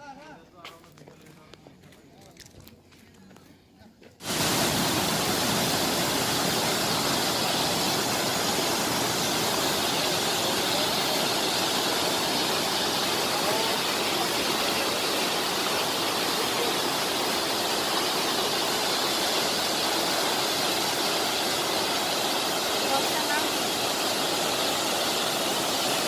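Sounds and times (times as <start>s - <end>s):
waterfall rushing: 4.2s - 26.0s.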